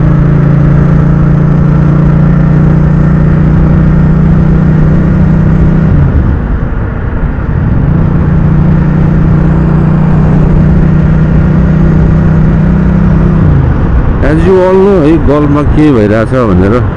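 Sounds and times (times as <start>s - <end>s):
motorcycle engine cruising: 0.0s - 16.9s
wind rumble on microphone: 0.0s - 16.9s.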